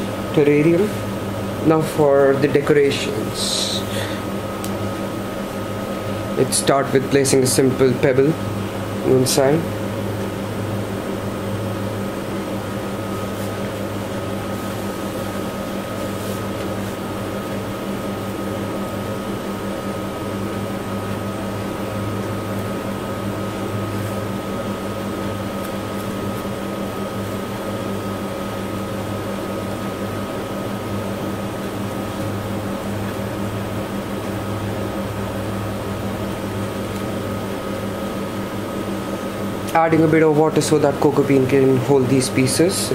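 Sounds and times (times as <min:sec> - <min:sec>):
machine hum with high whine: 0:00.0 - 0:42.9.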